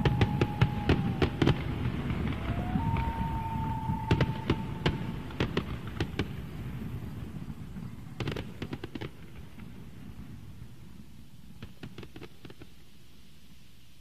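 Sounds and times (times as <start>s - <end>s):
rumbling crackling noise: 0.0s - 12.9s.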